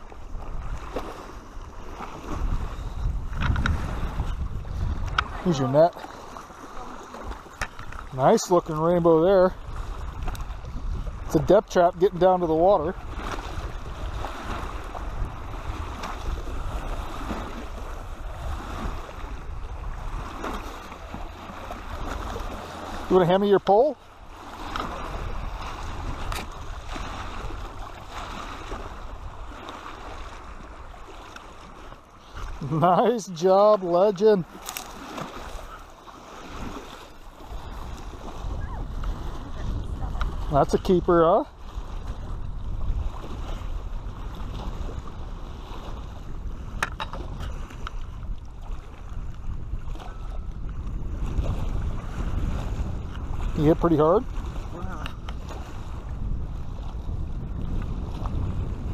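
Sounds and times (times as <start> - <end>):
small waves lapping on rocks: 0.0 - 58.9
wind on microphone: 0.0 - 58.9.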